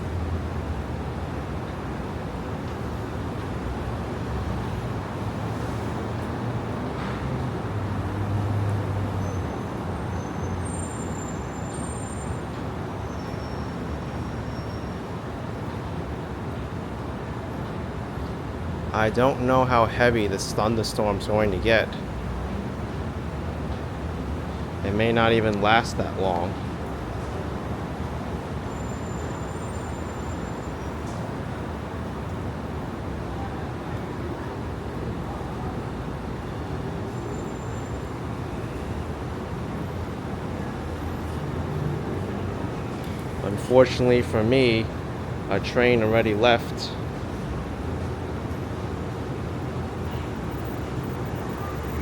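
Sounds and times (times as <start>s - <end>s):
road noise: 0.0s - 52.0s
street traffic noise: 0.0s - 52.0s.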